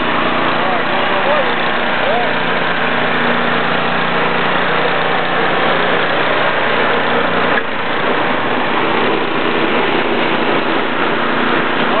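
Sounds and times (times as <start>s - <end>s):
snowblower engine running: 0.0s - 12.0s.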